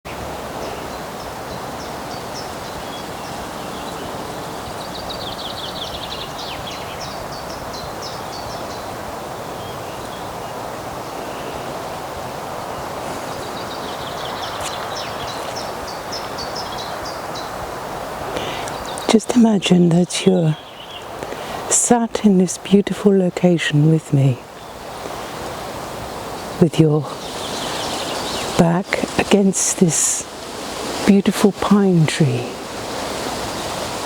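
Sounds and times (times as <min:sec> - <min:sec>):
songbirds chirping and trilling: 0:00.1 - 0:34.0.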